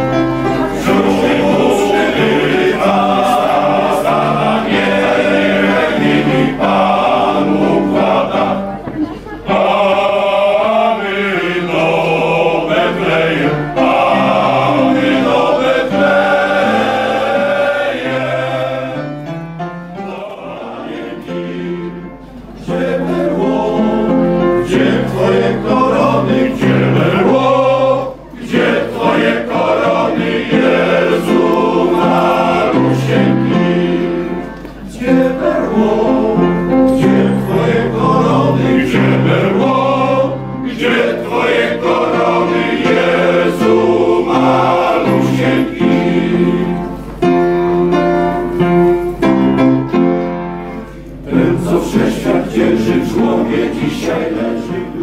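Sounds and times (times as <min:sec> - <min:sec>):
male choir singing: 0:00.0 - 0:19.3, 0:19.9 - 0:47.3, 0:51.2 - 0:55.0.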